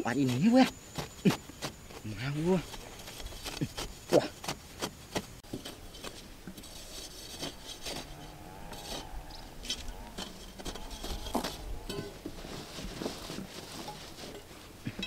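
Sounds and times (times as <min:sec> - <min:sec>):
rod scraping dry soil: 0:00.0 - 0:15.0.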